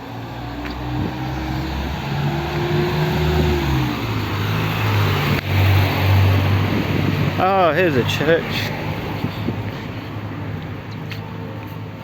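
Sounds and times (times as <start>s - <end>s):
car engine humming: 0.0s - 11.6s
road noise: 0.0s - 12.0s.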